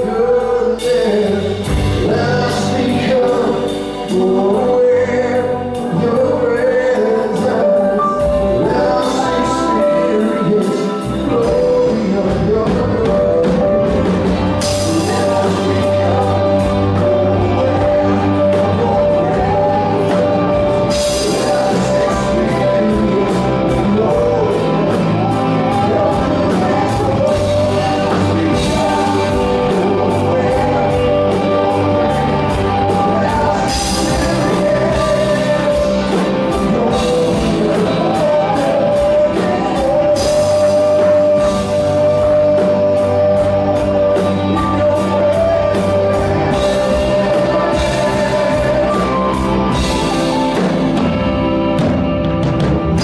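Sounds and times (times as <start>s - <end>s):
drum kit: 0.0s - 53.0s
electric keyboard: 0.0s - 53.0s.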